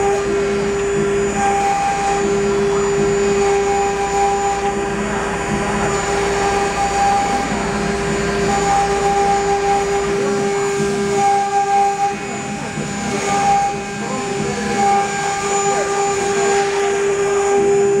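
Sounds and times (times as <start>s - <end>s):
router spindles whining: 0.0s - 18.0s.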